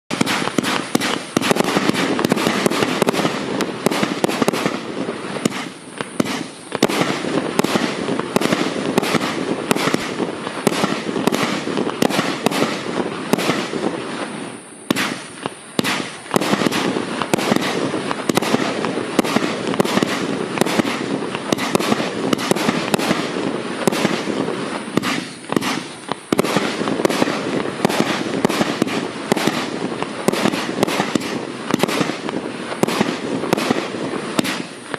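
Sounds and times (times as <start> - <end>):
firework crackling: 0.1 - 34.9
firework shots and bursts: 0.1 - 34.9.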